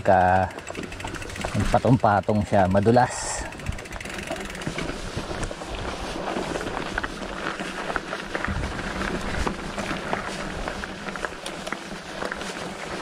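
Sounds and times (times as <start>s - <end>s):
bike clicks and knocks: 0.0s - 13.0s
bike tyre rolling on pine straw: 0.0s - 13.0s.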